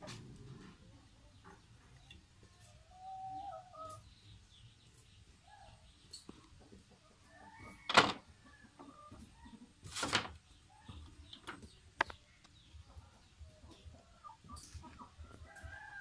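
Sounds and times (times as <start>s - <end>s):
faint chicken and bird calls: 0.0s - 16.0s.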